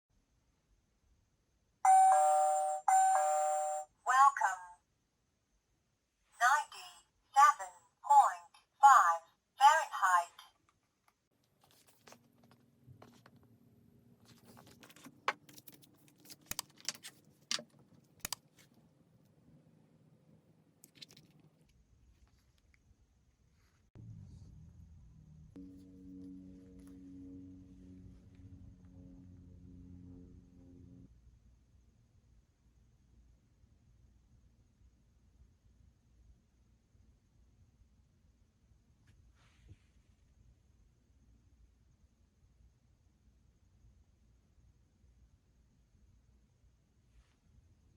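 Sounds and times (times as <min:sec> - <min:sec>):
faint low hum: 0:06.9 - 0:47.9.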